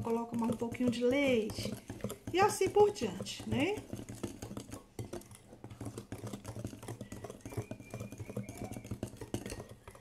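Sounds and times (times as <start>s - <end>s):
whisk beating batter in bowl: 0.0s - 10.0s.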